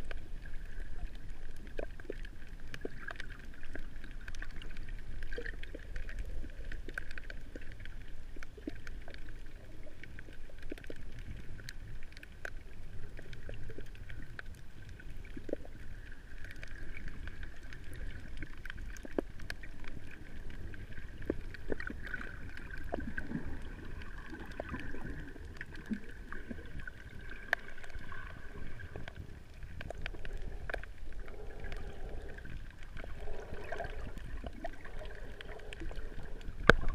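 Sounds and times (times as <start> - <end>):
faint clicks and crackles: 0.0 - 36.9
muffled underwater water wash: 0.0 - 36.9.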